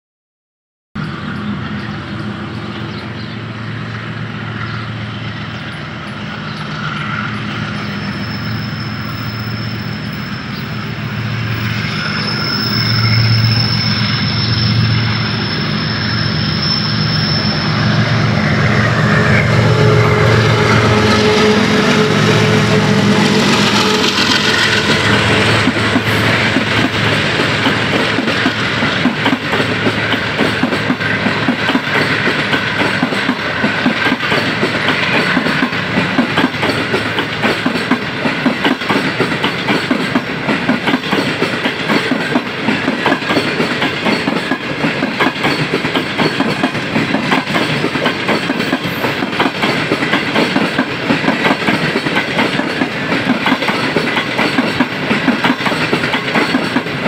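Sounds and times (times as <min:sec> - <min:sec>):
diesel locomotive engine running: 0:01.0 - 0:57.0
train wheels rumbling on rails: 0:01.0 - 0:57.0.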